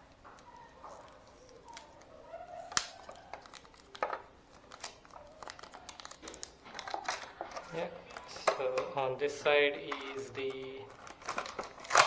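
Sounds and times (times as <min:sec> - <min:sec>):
packaging crinkling rustles: 0:00.0 - 0:08.6, 0:09.9 - 0:12.0.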